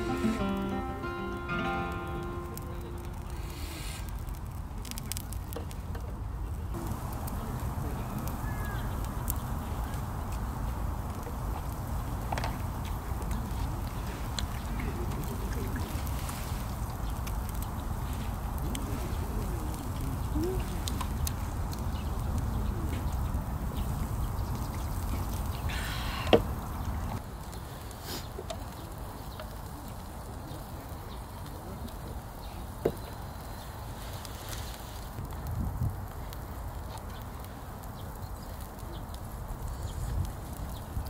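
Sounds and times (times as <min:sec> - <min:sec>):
faint clicks and crackles: 0:01.7 - 0:41.0
wind rumble on microphone: 0:03.4 - 0:27.6, 0:28.7 - 0:41.0.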